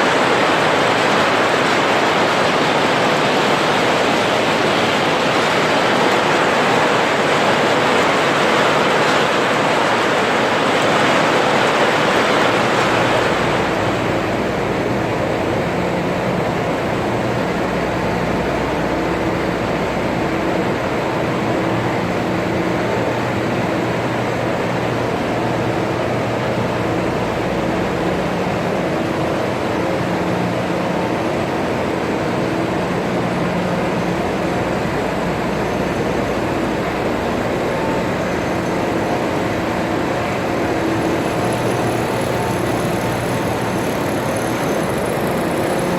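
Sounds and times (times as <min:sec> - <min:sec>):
machinery hiss with low hum: 0:00.0 - 0:45.9.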